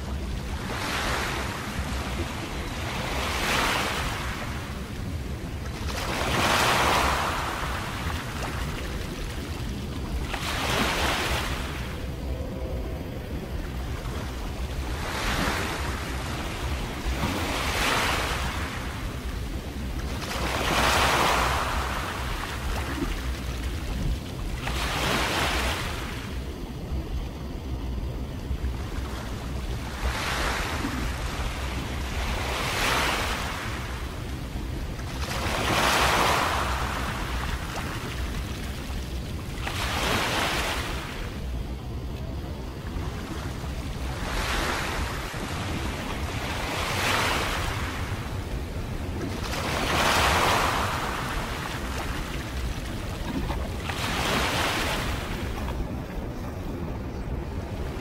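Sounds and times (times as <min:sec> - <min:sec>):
waves washing against rocky shore: 0:00.0 - 0:13.1, 0:13.7 - 0:26.6, 0:29.8 - 0:42.5, 0:43.4 - 0:58.0
wind rumble on microphone: 0:00.0 - 0:58.0.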